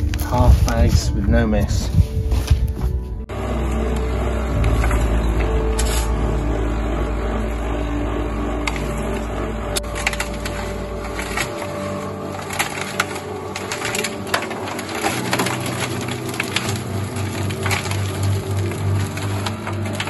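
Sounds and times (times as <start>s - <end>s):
cement mixer motor hum: 3.3s - 20.0s
gritty rattle of stones: 3.6s - 20.0s.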